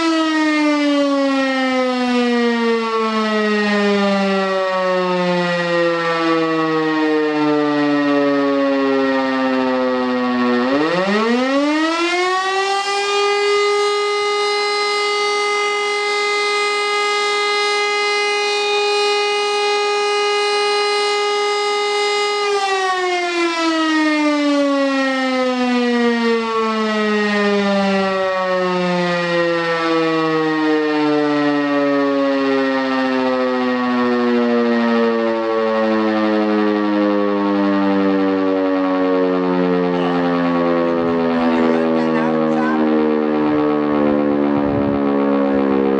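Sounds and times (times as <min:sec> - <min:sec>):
civil defence siren howling: 0:00.0 - 0:45.9.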